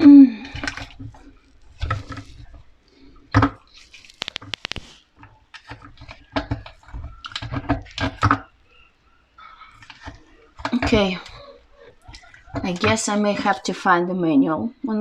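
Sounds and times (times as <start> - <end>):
hard objects knocking and clattering: 0.5 - 8.6, 9.7 - 13.6.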